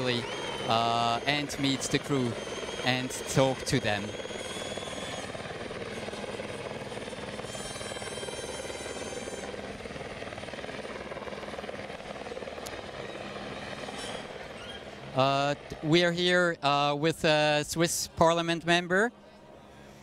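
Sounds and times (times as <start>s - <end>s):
helicopter rotor chopping: 0.0s - 20.0s.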